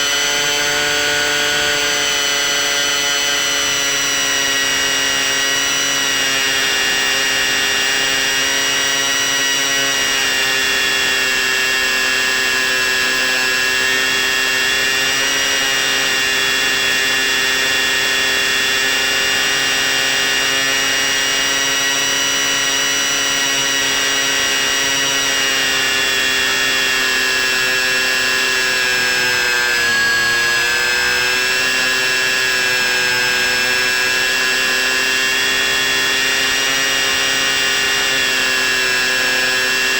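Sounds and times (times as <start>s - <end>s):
model plane motor whine: 0.0s - 39.9s.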